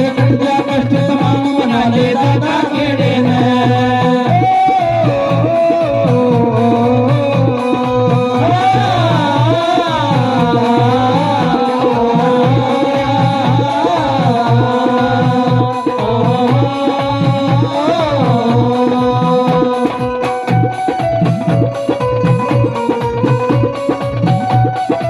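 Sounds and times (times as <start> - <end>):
hand drum rhythm: 0.0 - 25.0
melodic lead with sliding notes: 0.0 - 25.0.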